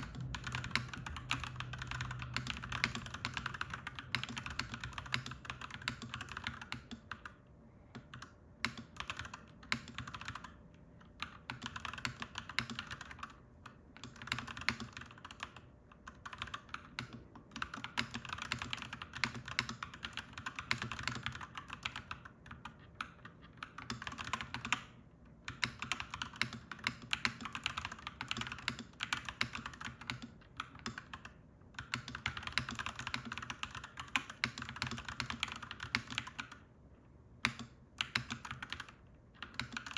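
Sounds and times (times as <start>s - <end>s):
mechanical keyboard clacking: 0.0s - 36.6s, 37.4s - 39.9s
faint low hum: 0.0s - 39.9s.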